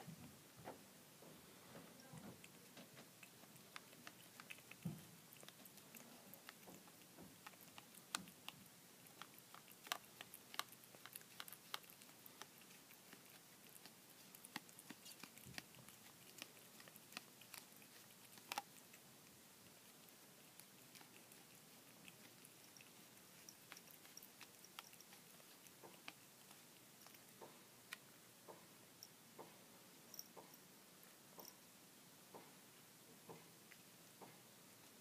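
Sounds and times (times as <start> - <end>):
cat chewing and licking: 0.6 - 35.0.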